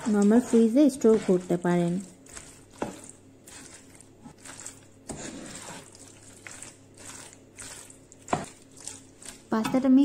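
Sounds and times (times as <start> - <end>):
spatula stirring thick sauce: 0.0 - 9.6.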